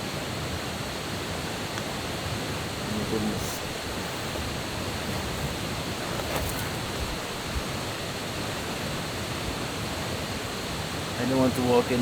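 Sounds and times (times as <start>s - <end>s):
water rushing in a gorge: 0.1s - 12.0s.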